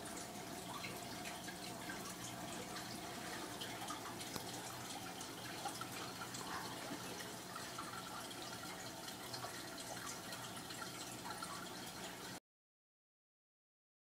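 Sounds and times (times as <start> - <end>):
aquarium water trickling: 0.0 - 12.4.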